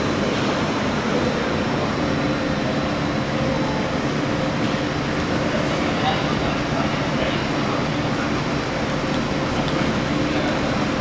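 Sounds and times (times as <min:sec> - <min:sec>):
train rumble and electric hum: 0:00.0 - 0:11.0.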